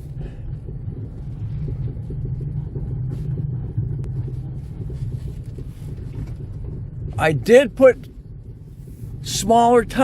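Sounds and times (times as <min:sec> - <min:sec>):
car wheels humming: 0:00.0 - 0:10.0.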